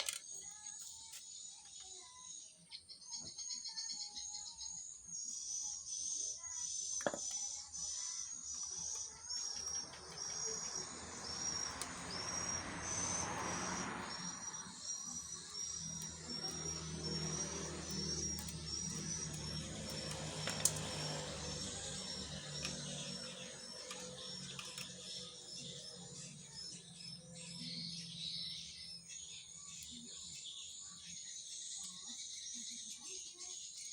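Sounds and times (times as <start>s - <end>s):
insect chirping: 0.5s - 33.9s.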